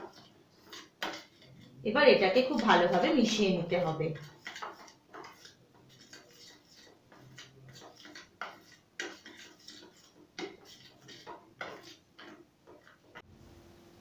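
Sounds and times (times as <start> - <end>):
spoon scraping steel bowl: 0.0 - 13.2.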